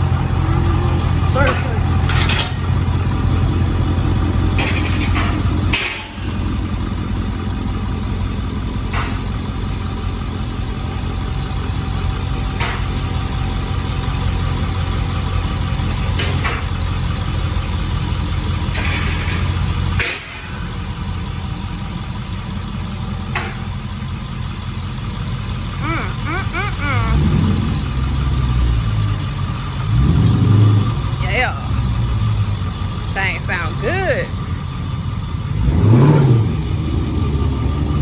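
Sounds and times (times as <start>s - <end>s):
car engine idling with deep rumble: 0.0s - 38.0s.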